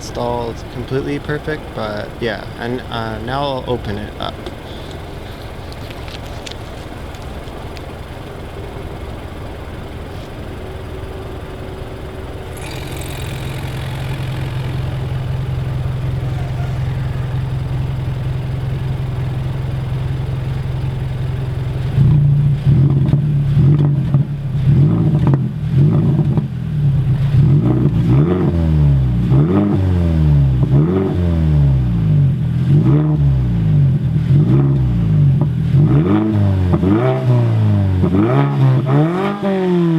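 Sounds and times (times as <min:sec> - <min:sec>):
car engine idling: 0:00.0 - 0:35.9
car engine revving: 0:00.0 - 0:39.9.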